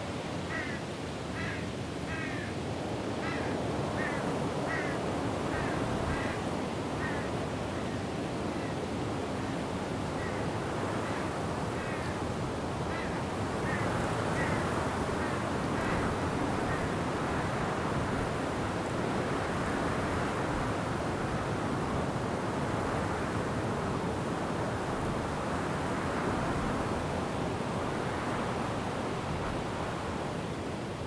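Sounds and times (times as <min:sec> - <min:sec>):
wind and rain through trees: 0:00.0 - 0:31.0.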